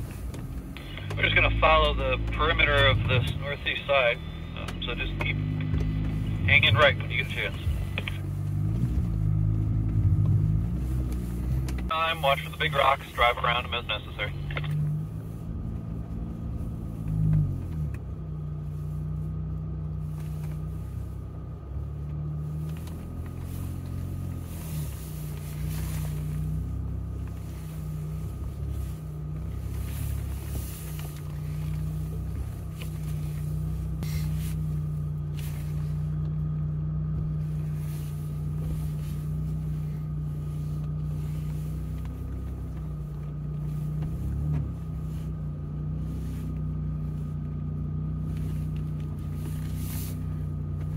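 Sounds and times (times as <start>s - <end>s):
car engine droning inside cab: 0.0s - 50.9s.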